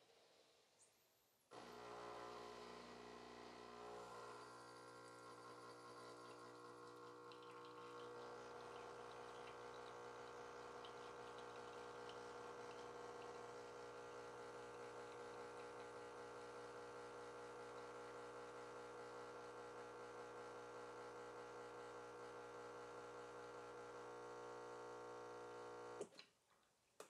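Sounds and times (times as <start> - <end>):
espresso machine pump humming: 1.5 - 26.1.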